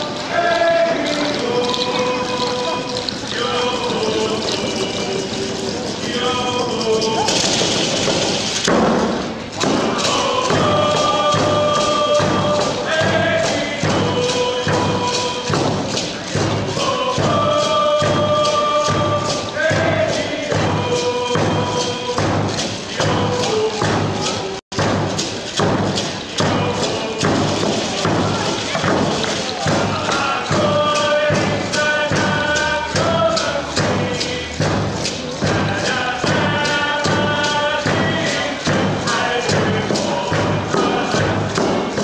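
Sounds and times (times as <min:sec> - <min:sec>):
group of voices singing: 0:00.0 - 0:42.0
hand drums beating: 0:00.0 - 0:42.0.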